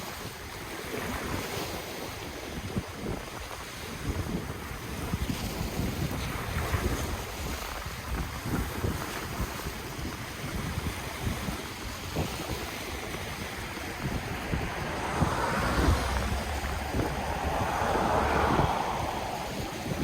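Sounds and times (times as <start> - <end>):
ocean waves on shore: 0.0 - 20.0
wind buffeting microphone: 0.0 - 20.0.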